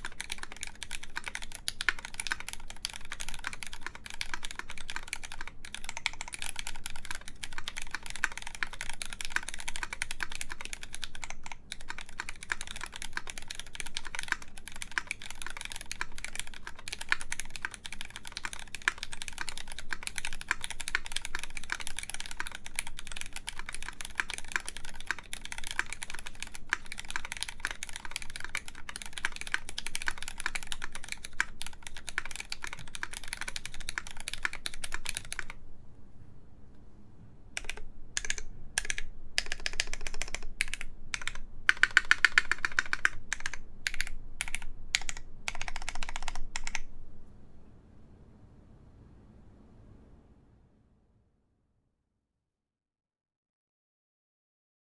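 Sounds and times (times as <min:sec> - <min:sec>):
fast typing on mechanical keyboard: 0:00.0 - 0:35.6, 0:37.6 - 0:46.9.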